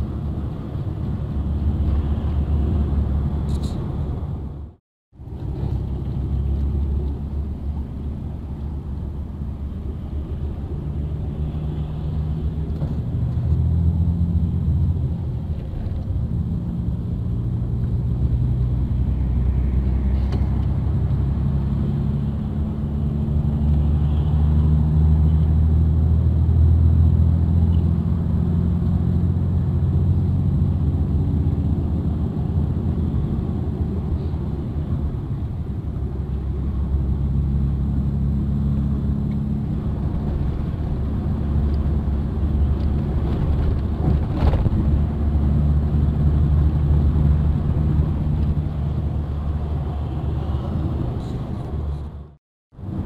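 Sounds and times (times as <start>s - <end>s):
road rumble: 0.0s - 53.0s
vehicle engine: 0.0s - 53.0s.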